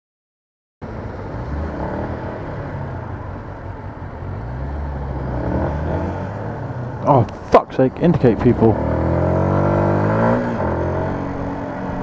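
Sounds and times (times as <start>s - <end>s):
road and wind noise: 0.8s - 12.0s.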